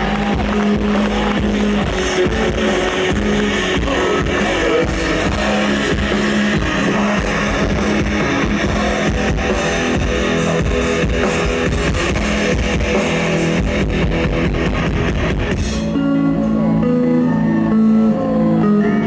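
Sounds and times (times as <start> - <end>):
drum kit: 0.0 - 16.7
distorted electric guitars: 0.0 - 19.0
picked guitar melody: 0.0 - 19.0.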